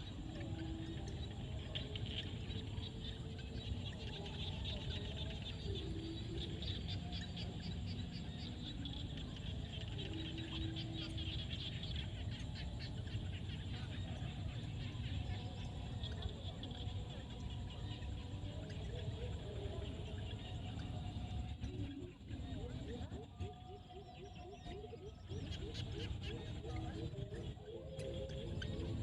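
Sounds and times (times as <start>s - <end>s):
frogs clicking calls: 0.0s - 29.0s
frogs croaking: 0.0s - 29.0s.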